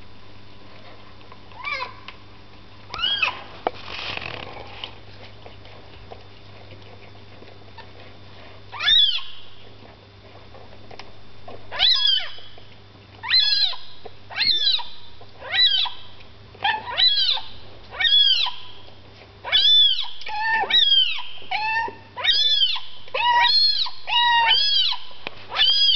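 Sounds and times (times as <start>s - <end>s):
faint low hum: 0.0s - 25.9s.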